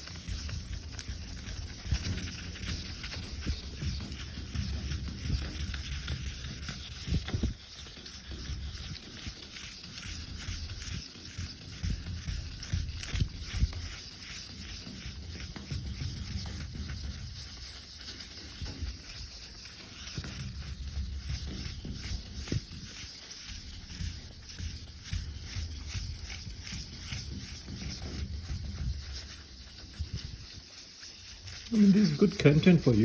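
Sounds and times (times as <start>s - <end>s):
sandpaper rubbing scrape: 0.0s - 33.0s.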